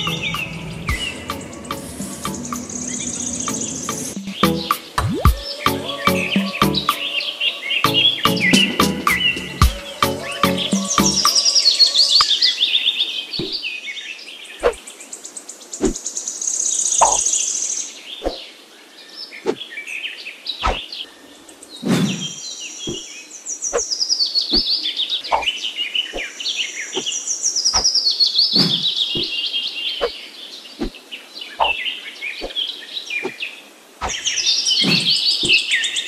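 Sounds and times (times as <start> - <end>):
small birds trilling: 0.0 - 36.0.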